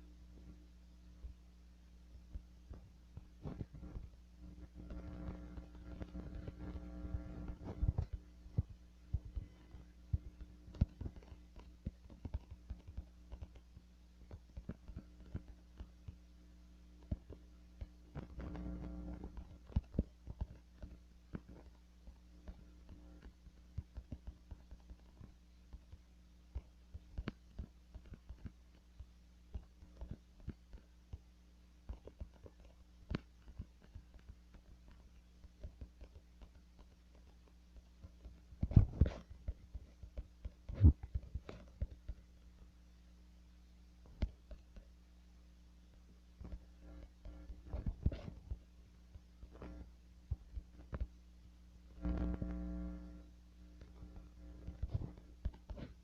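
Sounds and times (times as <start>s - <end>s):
low electrical hum: 0.0s - 56.0s
soft clicks and taps: 2.1s - 16.3s, 17.0s - 42.8s, 44.0s - 45.0s, 45.8s - 56.0s.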